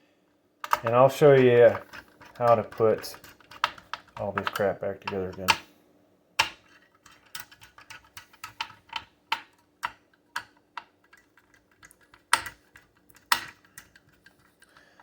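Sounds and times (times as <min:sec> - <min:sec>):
hands handling computer parts: 0:00.6 - 0:05.6, 0:06.4 - 0:15.0.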